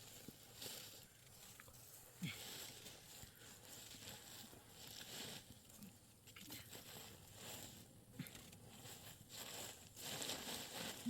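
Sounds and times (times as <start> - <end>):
faint rustling: 0.0 - 11.0.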